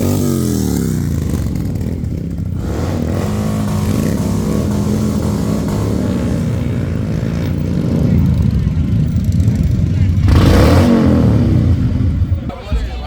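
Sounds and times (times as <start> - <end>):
motorcycle engine revving: 0.0 - 12.5.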